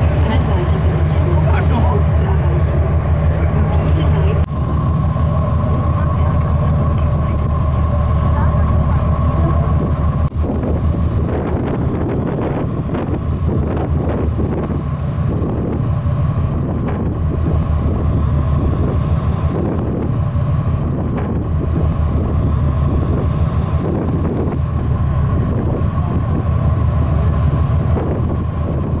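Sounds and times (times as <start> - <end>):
low drone of ferry engines: 0.0 - 29.0
steady higher hum: 0.0 - 29.0
wind buffeting the microphone: 0.0 - 29.0.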